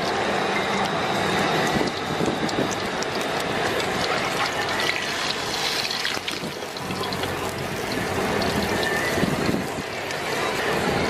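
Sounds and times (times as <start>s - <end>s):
hot oil sizzling and popping: 1.3s - 10.4s.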